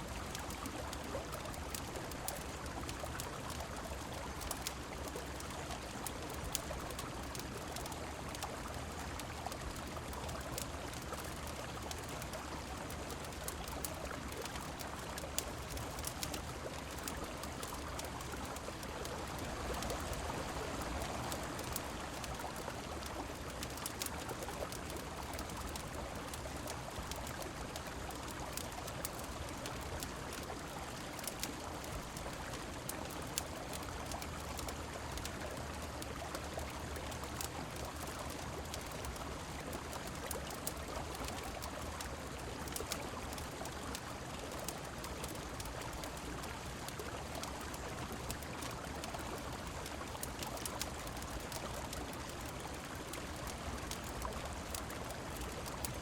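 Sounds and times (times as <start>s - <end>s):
rain falling: 0.0s - 56.0s
wood fire crackling: 0.1s - 56.0s.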